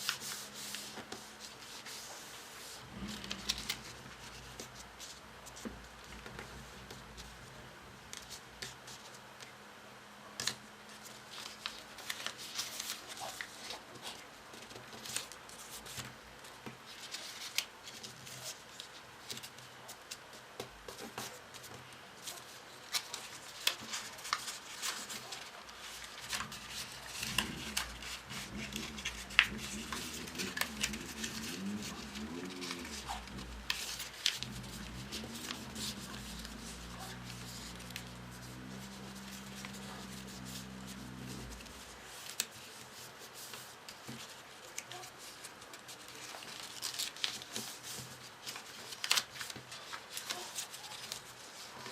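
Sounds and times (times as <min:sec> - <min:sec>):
paper rustling and folding: 0:00.0 - 0:09.5, 0:10.4 - 0:51.9
faint low hum: 0:00.0 - 0:51.9.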